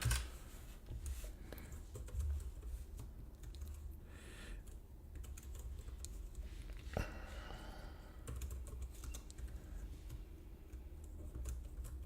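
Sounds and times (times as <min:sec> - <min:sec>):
faint keyboard typing: 0:00.0 - 0:06.9, 0:08.0 - 0:12.0.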